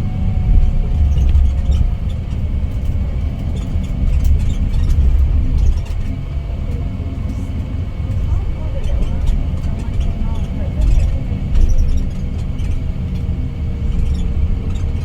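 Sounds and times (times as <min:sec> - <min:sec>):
coach engine and road rumble: 0:00.0 - 0:15.0.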